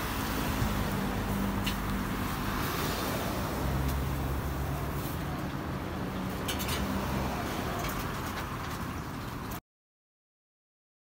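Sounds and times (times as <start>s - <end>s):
road noise: 0.0s - 9.6s.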